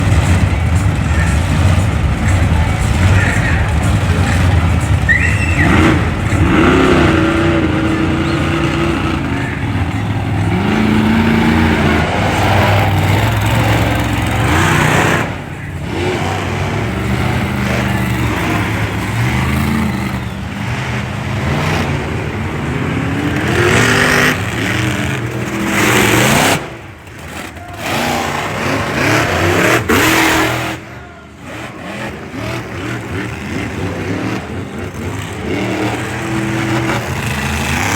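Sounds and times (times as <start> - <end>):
monster truck engines revving: 0.0 - 37.9.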